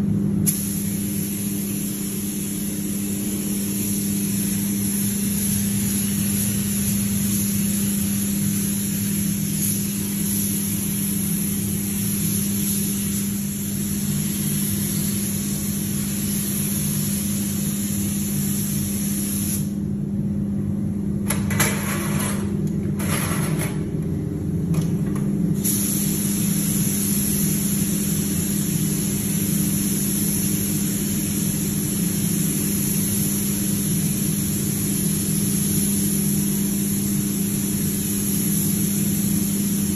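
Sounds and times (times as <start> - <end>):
paint spray gun hissing: 0.4 - 19.8, 25.6 - 39.9.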